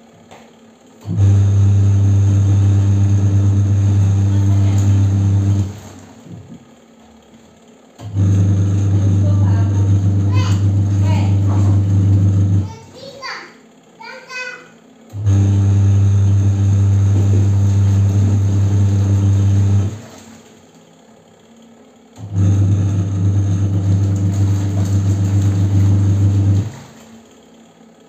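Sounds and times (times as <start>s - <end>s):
washing machine motor humming: 0.0s - 28.0s.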